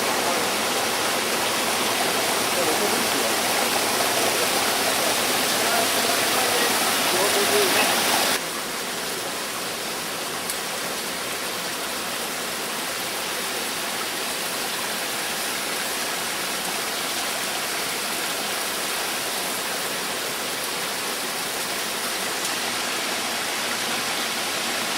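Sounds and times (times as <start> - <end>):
stream rushing over rocks: 0.0 - 24.9.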